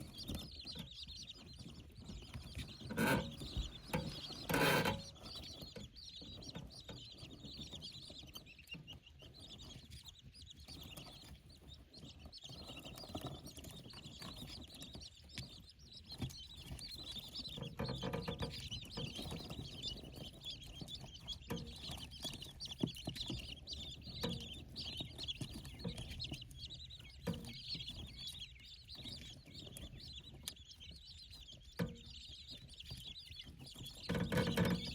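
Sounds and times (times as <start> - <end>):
quail chicks cheeping: 0.0 - 34.9.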